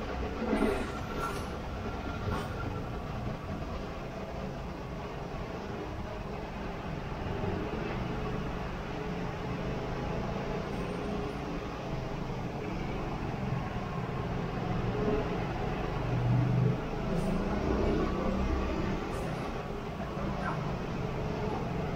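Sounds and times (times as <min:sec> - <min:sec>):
street traffic hum: 0:00.0 - 0:21.9.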